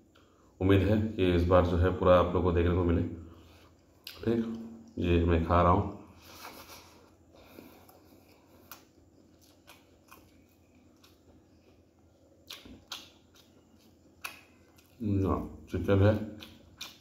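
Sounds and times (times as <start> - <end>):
low steady hum: 0.0 - 17.0
faint chewing and mouth sounds: 3.3 - 17.0.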